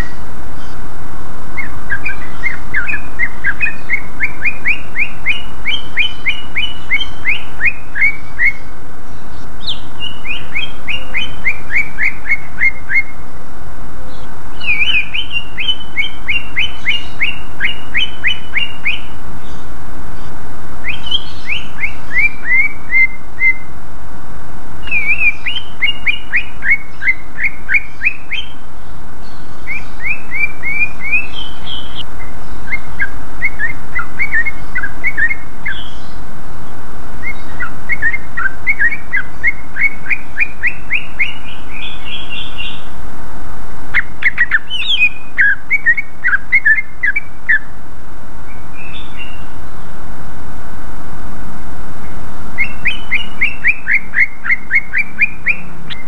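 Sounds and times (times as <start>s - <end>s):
bird singing sharp whistled notes: 1.6s - 13.2s, 14.1s - 19.7s, 20.8s - 23.7s, 24.8s - 28.6s, 29.2s - 36.2s, 37.2s - 42.9s, 43.9s - 47.7s, 48.5s - 49.9s, 52.6s - 56.0s.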